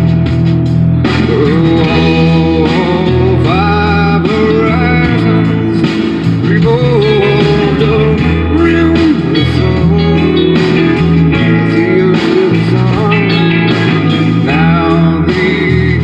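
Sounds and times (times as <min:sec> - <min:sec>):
bass line: 0:00.0 - 0:16.0
guitar: 0:00.0 - 0:16.0
person singing: 0:01.1 - 0:16.0.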